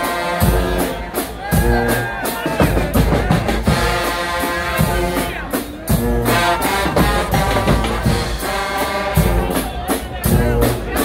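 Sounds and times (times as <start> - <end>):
brass chords: 0.0 - 11.0
drums beating: 0.0 - 11.0.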